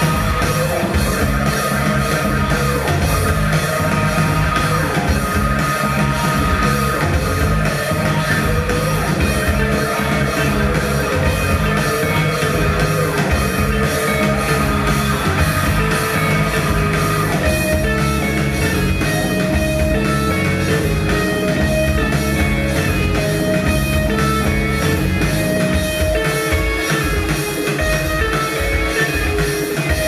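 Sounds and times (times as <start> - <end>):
drum kit steady beat: 0.0 - 30.0
electric guitar: 0.0 - 30.0.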